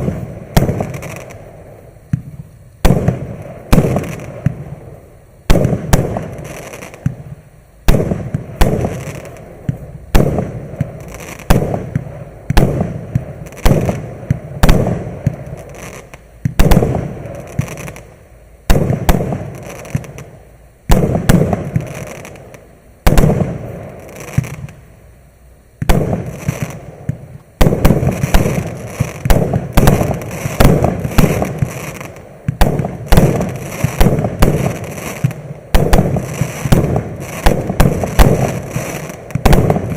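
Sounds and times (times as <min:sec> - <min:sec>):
firework bangs with crackling pops: 0:00.0 - 0:39.9.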